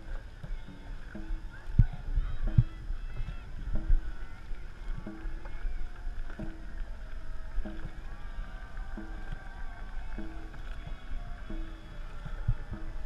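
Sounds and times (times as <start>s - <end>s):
drum beats: 0.0s - 13.0s
paddles churning water: 0.0s - 13.0s
wind rumble on microphone: 0.0s - 13.0s.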